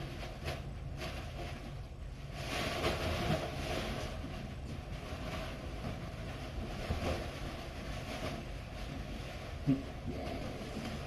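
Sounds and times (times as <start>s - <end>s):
low background hum: 0.0s - 11.0s
nylon fabric rustling: 0.0s - 11.0s.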